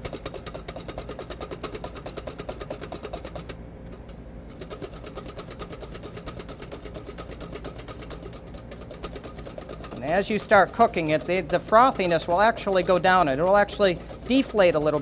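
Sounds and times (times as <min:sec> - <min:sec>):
whisk beating in a metal bowl: 0:00.0 - 0:15.0.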